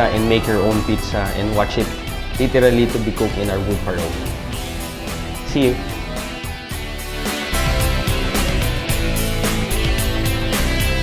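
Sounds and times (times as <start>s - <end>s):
background music with guitar: 0.0s - 11.0s.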